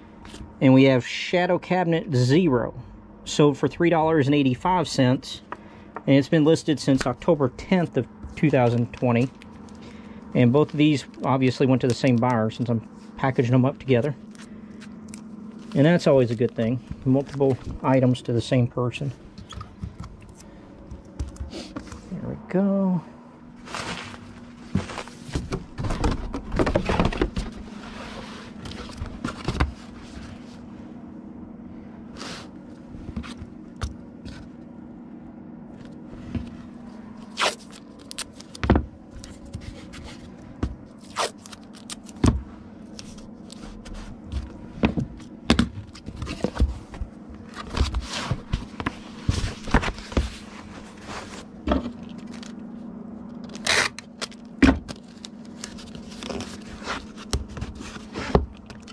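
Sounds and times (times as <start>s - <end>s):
steady hum: 0.0s - 58.9s.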